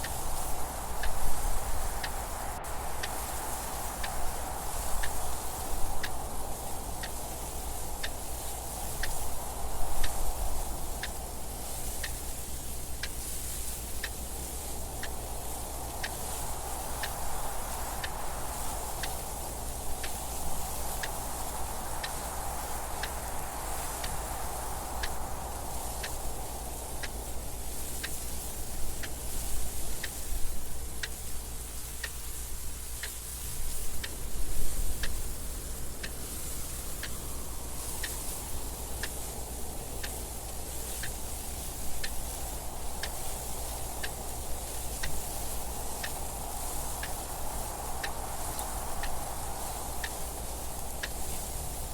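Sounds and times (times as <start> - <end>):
clock ticking: 0.0 - 2.4, 3.0 - 51.9
wind noise: 0.0 - 51.9.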